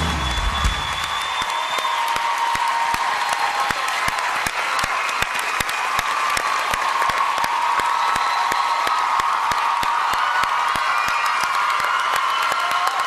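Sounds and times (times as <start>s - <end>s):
audience clapping: 0.0s - 13.0s.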